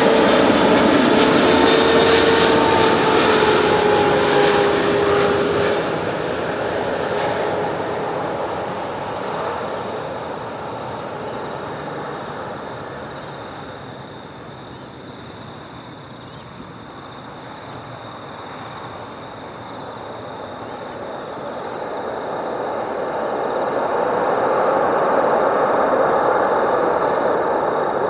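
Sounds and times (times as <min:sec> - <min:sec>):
jet engine rumble: 0:00.0 - 0:28.0.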